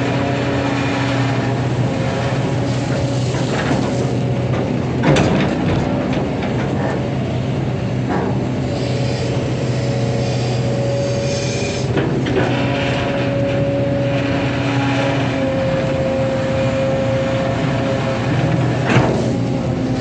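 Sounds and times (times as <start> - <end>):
diesel engine running: 0.0 - 20.0
hydraulic whine: 0.0 - 20.0.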